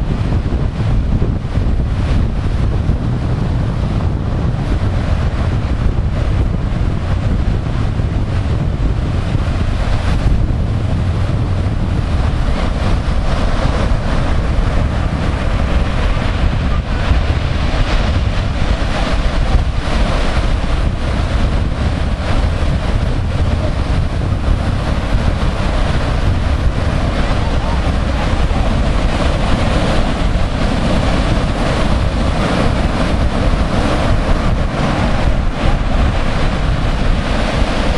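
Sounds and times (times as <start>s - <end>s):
ocean surf breaking: 0.0s - 37.9s
wind on microphone: 0.0s - 37.9s.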